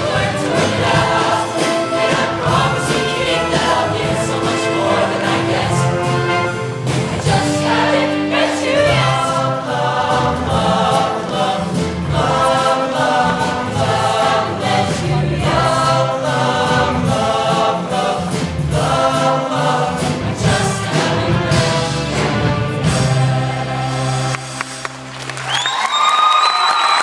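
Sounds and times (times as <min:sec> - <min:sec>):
choir singing in harmony: 0:00.0 - 0:24.4.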